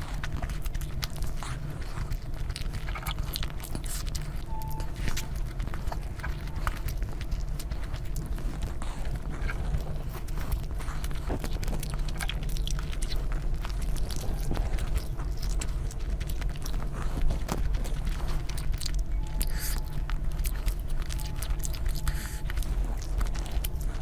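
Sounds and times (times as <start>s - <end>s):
person chewing food: 0.0s - 24.0s
steady low hum: 0.0s - 24.0s.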